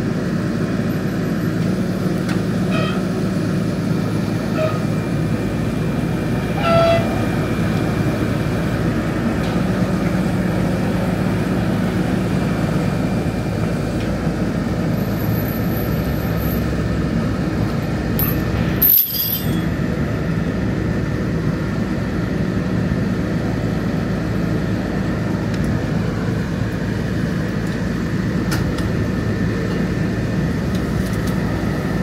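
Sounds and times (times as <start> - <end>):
tow truck engine running: 0.0 - 32.0.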